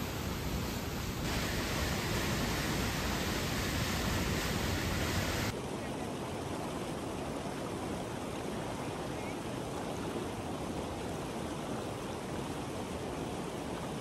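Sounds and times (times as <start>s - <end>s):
river water rushing over rapids: 0.0s - 14.0s.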